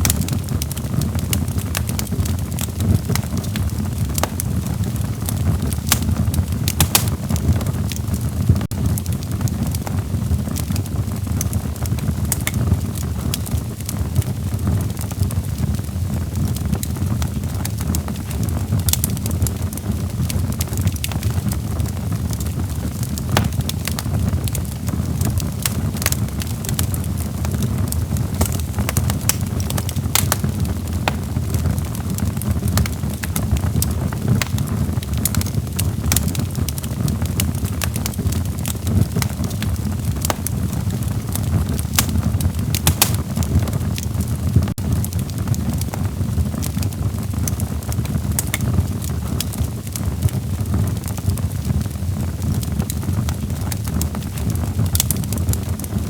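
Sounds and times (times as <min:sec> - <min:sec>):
logs crackling and popping: 0:00.0 - 0:56.0
low rumble of flames: 0:00.0 - 0:56.0.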